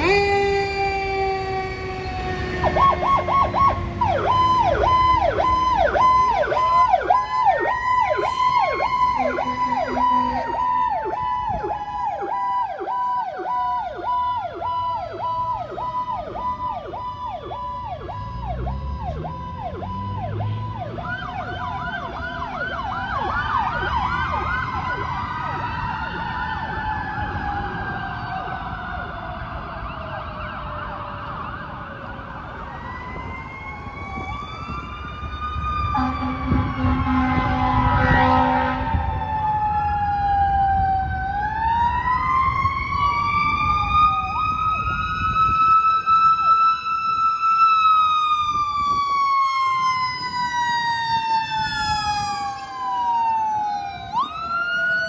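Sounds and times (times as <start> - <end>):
siren tone sliding lower: 0.0 - 28.9, 32.6 - 55.0
siren wail: 0.0 - 55.0
siren yelp: 0.0 - 55.0.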